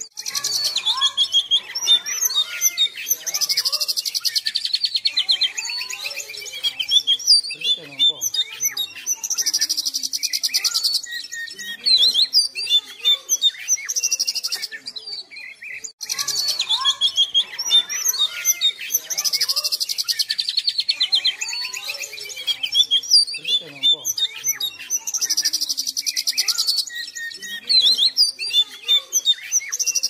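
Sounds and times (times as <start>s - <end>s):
bird singing whistles and trills: 0.0s - 30.0s.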